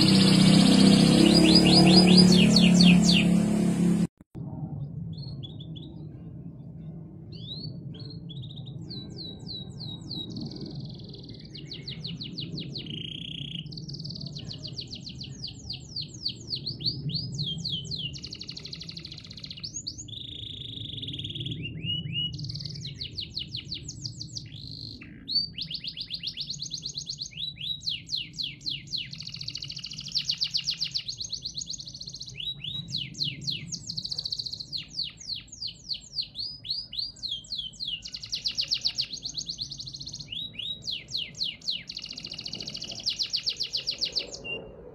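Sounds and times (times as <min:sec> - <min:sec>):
canary singing: 0:00.0 - 0:04.1, 0:07.4 - 0:44.8.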